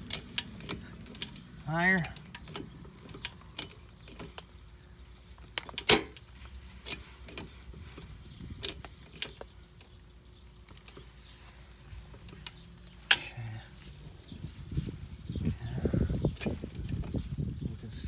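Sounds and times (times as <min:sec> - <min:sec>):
light metallic clicks and clinks: 0:00.0 - 0:18.0.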